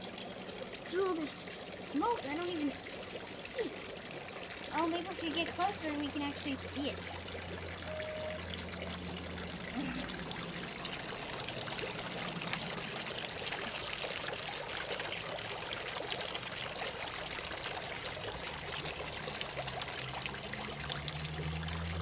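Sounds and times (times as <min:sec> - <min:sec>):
small waterfall running: 0:00.0 - 0:22.0.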